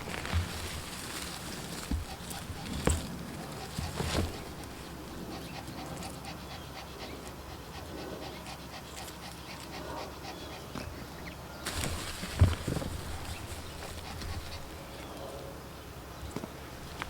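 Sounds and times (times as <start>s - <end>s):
dog panting: 0.3s - 15.5s.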